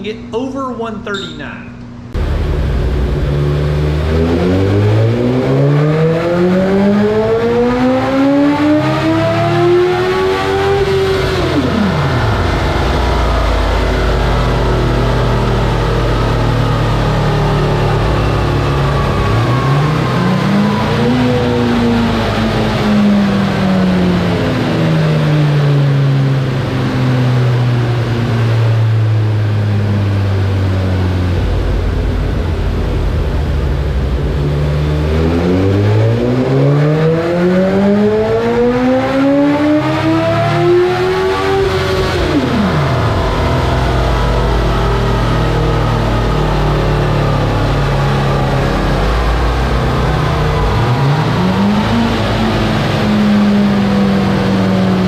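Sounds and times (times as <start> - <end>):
motorcycle engine revving: 2.1 - 55.0.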